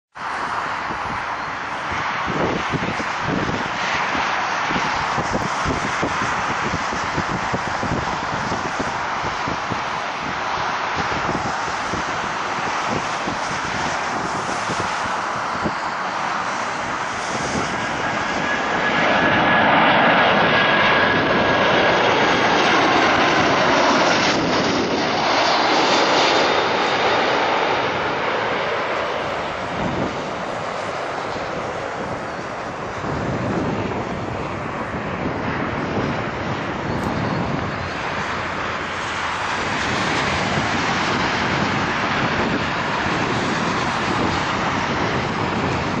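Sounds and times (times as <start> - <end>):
jet airliner passing overhead: 0.1 - 46.0.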